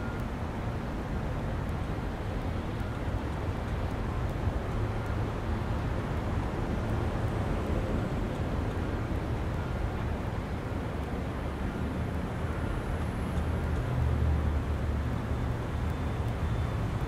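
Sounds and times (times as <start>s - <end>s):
outdoor background rumble and hiss: 0.0s - 17.0s.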